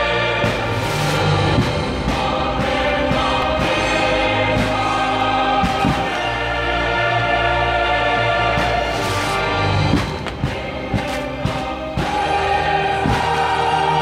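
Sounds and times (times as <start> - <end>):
choir singing sustained chords: 0.0 - 14.0
orchestra: 0.0 - 14.0
sharp orchestral hits: 0.0 - 14.0.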